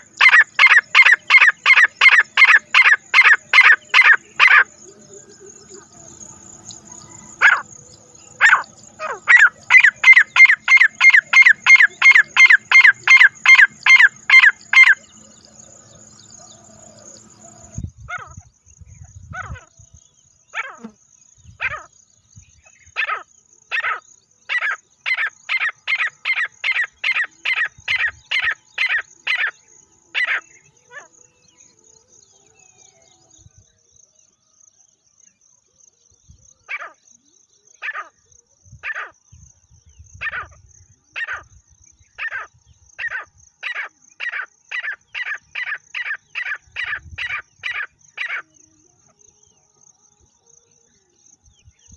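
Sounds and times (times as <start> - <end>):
francolin calling: 0.0 - 33.4, 39.9 - 51.9.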